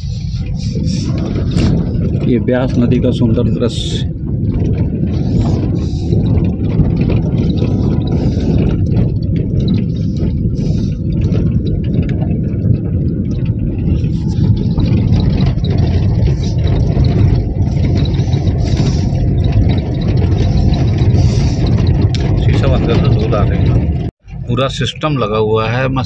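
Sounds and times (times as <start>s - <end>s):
small knocks and rattles: 0.0s - 24.3s
tyres and engine rumbling: 0.0s - 26.0s.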